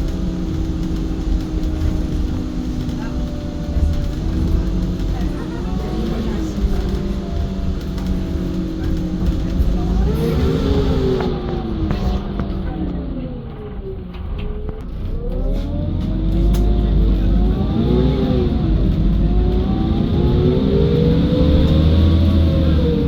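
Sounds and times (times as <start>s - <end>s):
bus drivetrain rumble and whine: 0.0s - 23.0s.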